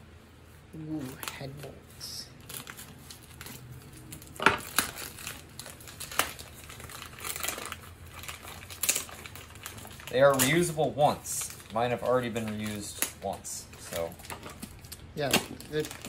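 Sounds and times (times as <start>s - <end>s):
packaging crinkling and rustling: 0.9s - 16.0s.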